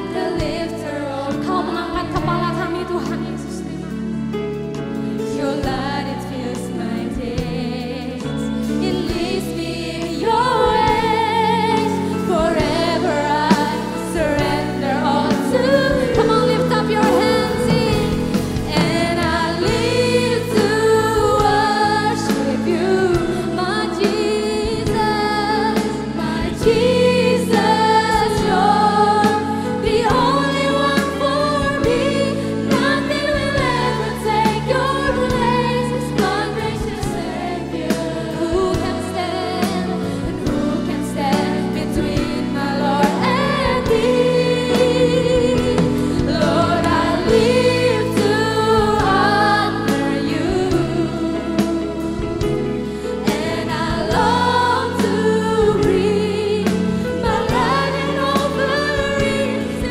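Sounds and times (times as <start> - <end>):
women singing slow melody: 0.0 - 4.3, 5.0 - 59.9
band with bass and drums: 0.0 - 59.9.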